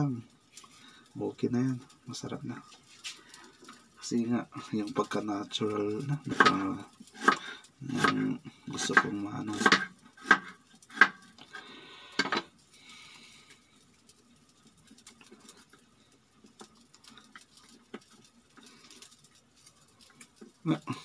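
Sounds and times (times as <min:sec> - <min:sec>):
faint ticks and handling sounds: 0:00.0 - 0:21.0.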